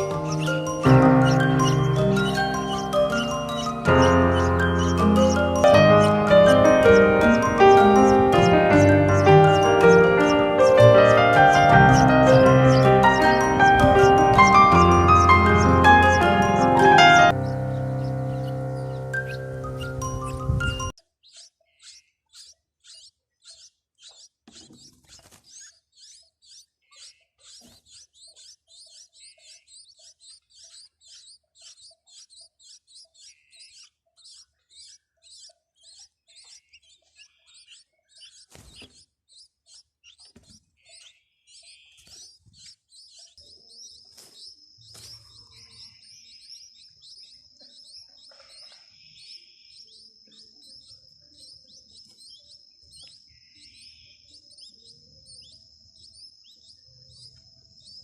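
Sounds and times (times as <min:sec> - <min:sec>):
sparrow chirping: 0:00.0 - 0:58.0.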